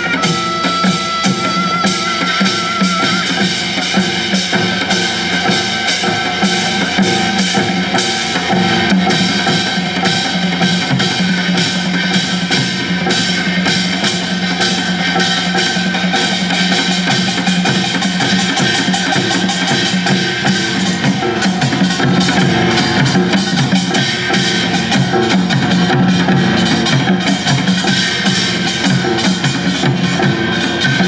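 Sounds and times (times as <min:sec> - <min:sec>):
fast dense drumming: 0:00.0 - 0:31.0.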